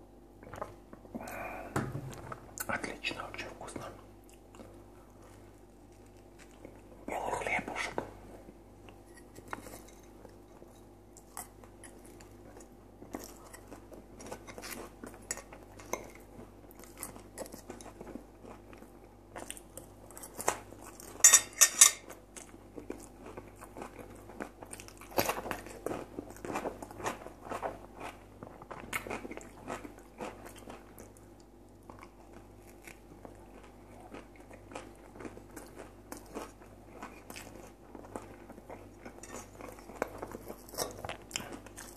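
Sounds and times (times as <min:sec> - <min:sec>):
chewing crispy potatoes: 0:02.6 - 0:41.9.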